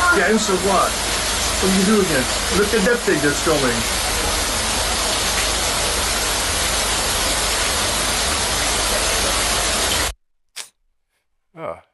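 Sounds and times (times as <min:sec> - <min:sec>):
floodwater rushing: 0:00.0 - 0:10.1.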